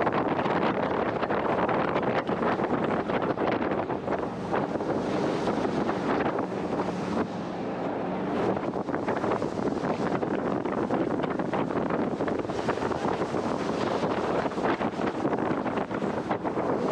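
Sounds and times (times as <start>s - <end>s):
jet boat engine running: 0.0s - 16.9s
wind buffeting microphone: 0.0s - 16.9s.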